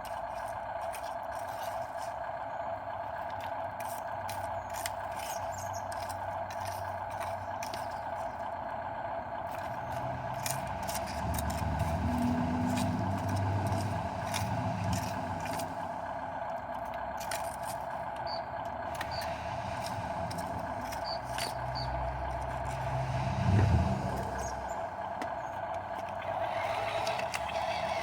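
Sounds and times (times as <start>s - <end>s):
dump truck engine droning: 0.0s - 28.0s
rattles and clicks: 0.0s - 28.0s.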